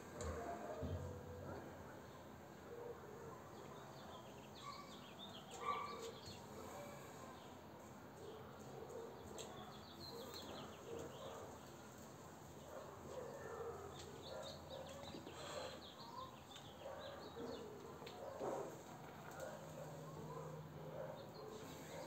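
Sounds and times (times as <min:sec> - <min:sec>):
small birds chirping: 0:03.2 - 0:07.6, 0:08.2 - 0:22.0.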